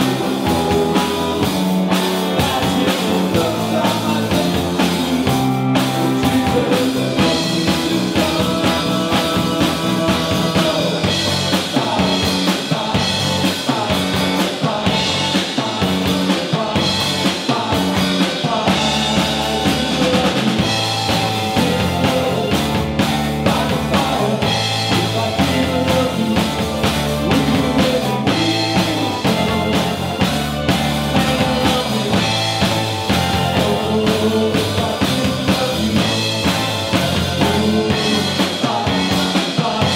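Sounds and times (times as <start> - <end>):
bass guitar: 0.0 - 39.9
drum kit: 0.0 - 39.9
electric guitar: 0.0 - 39.9
keyboard: 0.0 - 39.9.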